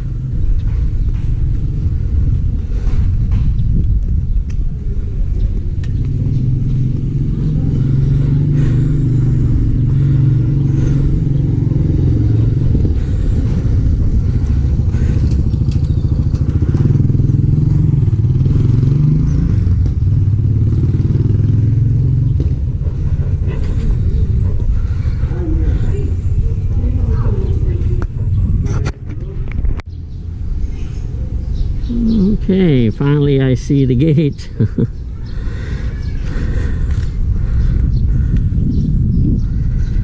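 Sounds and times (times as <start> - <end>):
vehicle engine rumbling: 0.0 - 40.0.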